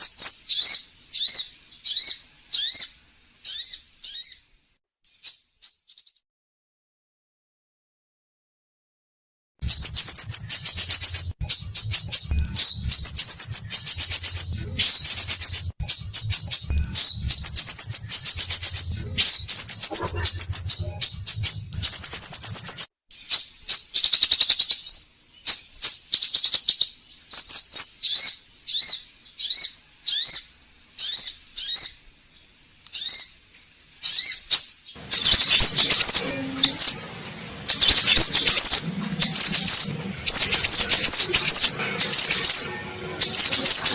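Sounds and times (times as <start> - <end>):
bird trilling and whistling: 0.0 - 4.5, 9.6 - 32.0, 34.0 - 43.9.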